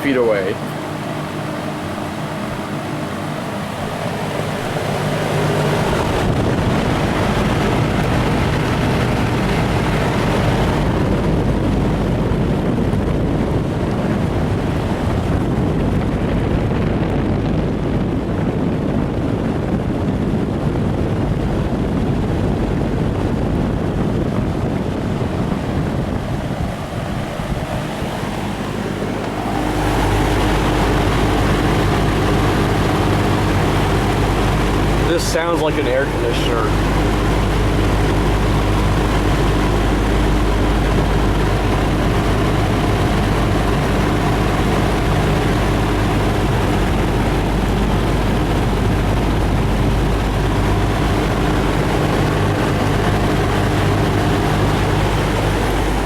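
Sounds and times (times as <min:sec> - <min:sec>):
fan motor hum: 0:00.0 - 0:56.0
fan wind buffeting microphone: 0:00.0 - 0:56.0.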